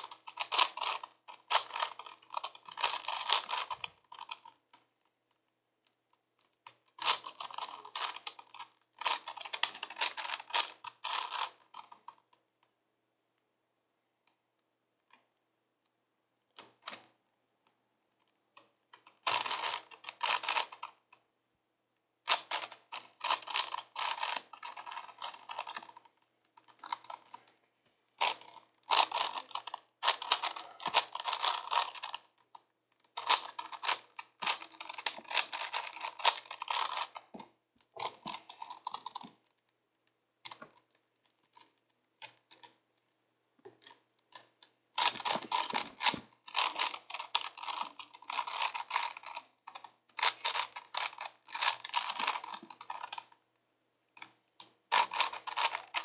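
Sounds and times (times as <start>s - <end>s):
puzzle cube plastic clicking: 0.0s - 5.4s, 6.4s - 12.3s, 18.5s - 21.2s, 22.2s - 27.6s, 28.2s - 39.7s, 40.4s - 42.8s, 43.6s - 53.4s, 54.2s - 56.0s.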